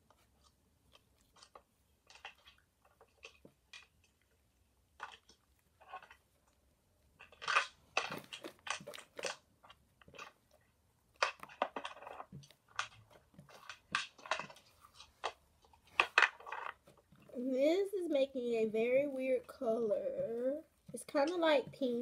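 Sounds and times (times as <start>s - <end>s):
slime crackling: 0.0s - 22.0s
slime squishing by hand: 0.0s - 22.0s.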